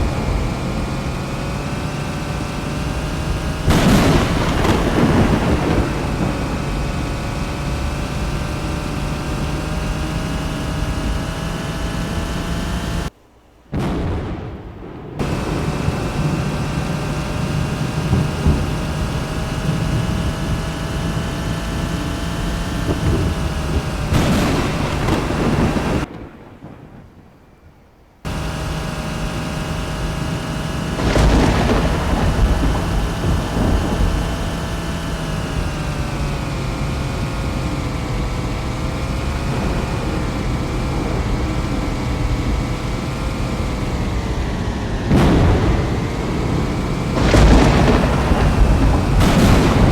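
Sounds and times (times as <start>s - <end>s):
thunder cracking and rumbling: 0.0s - 13.0s, 13.7s - 29.0s, 30.1s - 49.9s
steady rain: 0.0s - 13.1s, 15.2s - 27.0s, 28.3s - 49.9s
steady hum: 0.0s - 13.9s, 15.2s - 26.1s, 28.3s - 49.9s.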